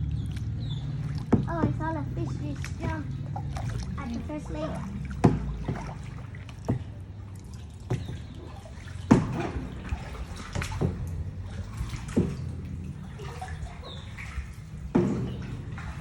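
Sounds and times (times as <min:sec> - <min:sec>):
water dripping from paddle: 0:00.0 - 0:16.0
paddle splashing into water: 0:00.2 - 0:16.0.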